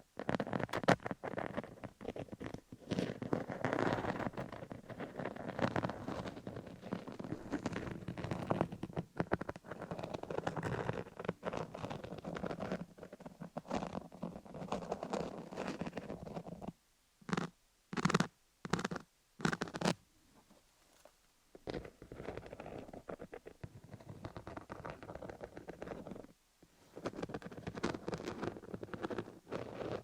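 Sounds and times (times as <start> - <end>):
fingers scratching microphone: 0.2 - 30.0.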